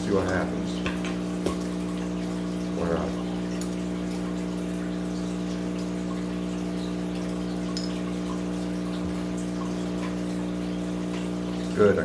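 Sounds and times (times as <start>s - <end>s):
aquarium pump hum: 0.0s - 12.0s
small water drips: 0.0s - 12.0s
water trickling: 0.0s - 12.0s.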